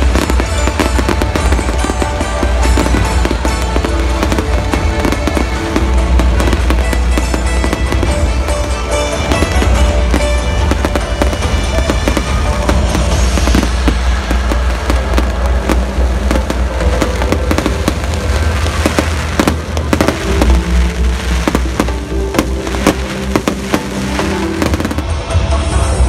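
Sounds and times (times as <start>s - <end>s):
fireworks bangs and crackles: 0.0s - 25.9s
music playing: 0.0s - 26.0s.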